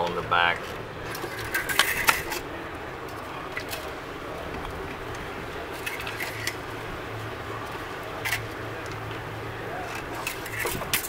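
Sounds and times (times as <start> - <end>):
steady background noise: 0.0 - 11.0
light metal clicks and scrapes: 0.5 - 6.7, 7.6 - 9.2, 9.8 - 11.0.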